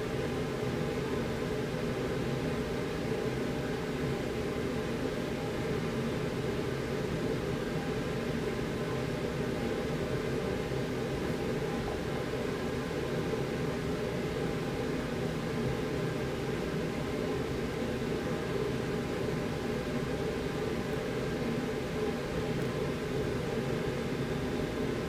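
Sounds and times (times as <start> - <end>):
mechanical hum with hiss: 0.0 - 25.0.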